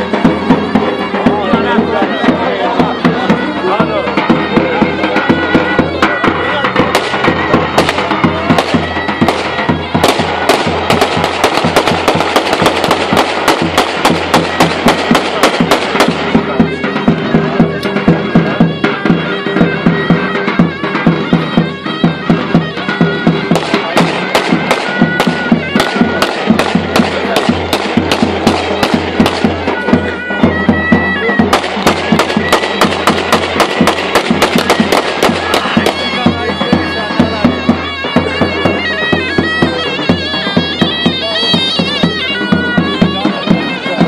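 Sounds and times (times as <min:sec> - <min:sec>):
bass drum beats: 0:00.0 - 0:44.0
shrill double-reed folk melody: 0:00.0 - 0:44.0.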